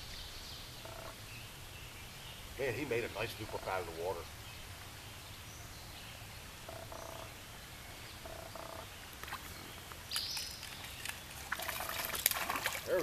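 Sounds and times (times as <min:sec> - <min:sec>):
stream background: 0:00.0 - 0:13.0.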